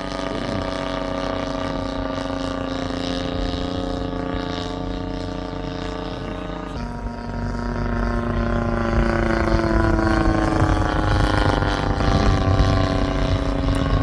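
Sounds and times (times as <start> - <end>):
model plane engine in flight: 0.0 - 14.0
wind rumble on microphone: 0.0 - 14.0.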